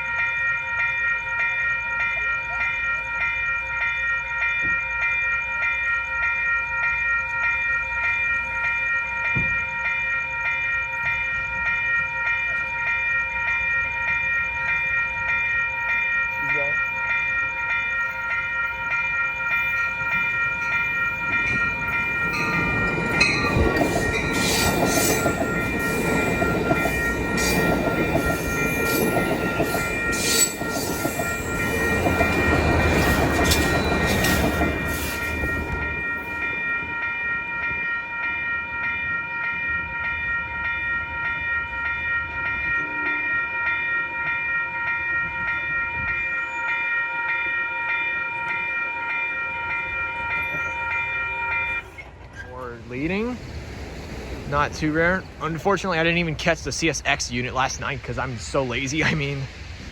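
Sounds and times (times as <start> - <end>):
steady high ringing tones: 0.0 - 59.6
train passing with rail clatter: 0.0 - 59.9.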